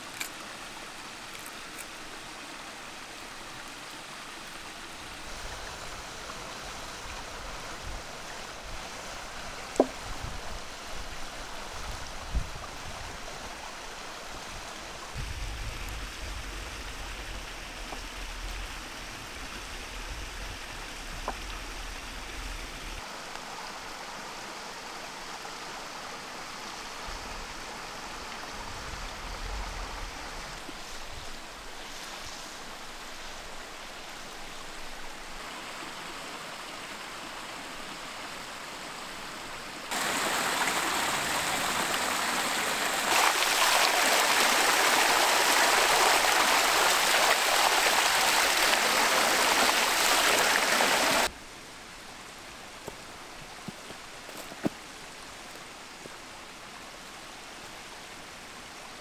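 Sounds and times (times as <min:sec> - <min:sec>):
stream splashing over rocks: 0:00.0 - 0:51.4.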